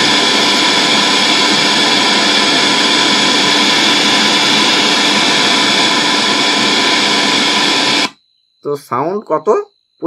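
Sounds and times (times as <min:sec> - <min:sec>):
radio static hiss: 0:00.0 - 0:08.1.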